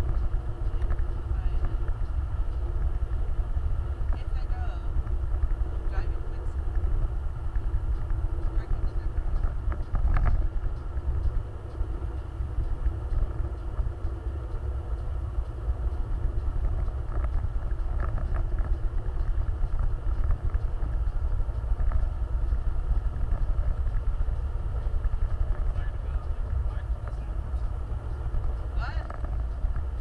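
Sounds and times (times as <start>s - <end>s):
off-road vehicle rumbling: 0.0s - 30.0s.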